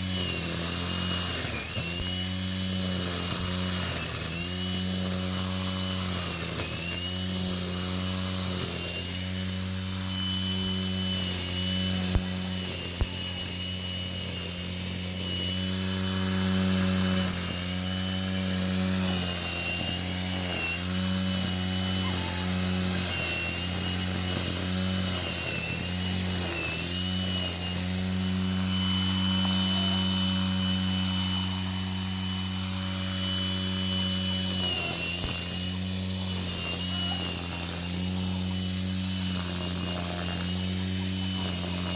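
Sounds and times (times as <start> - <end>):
angle grinder cutting grass: 0.0 - 41.9.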